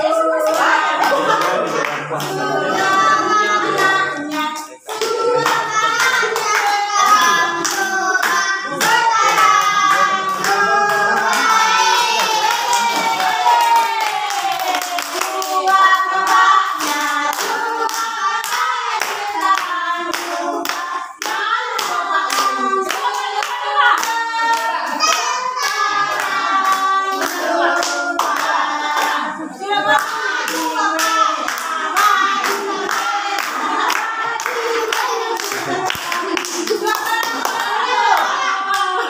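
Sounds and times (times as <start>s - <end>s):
hands clapping in rhythm: 0.0s - 39.0s
people singing together: 0.0s - 39.0s.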